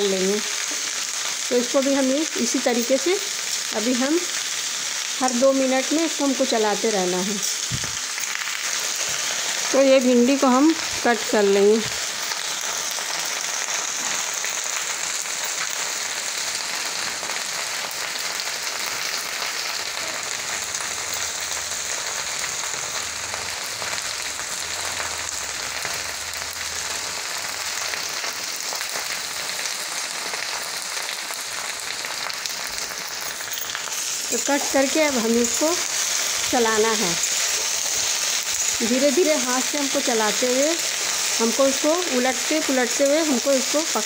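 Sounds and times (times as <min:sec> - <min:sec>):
okra sizzling in hot oil: 0:00.0 - 0:44.0.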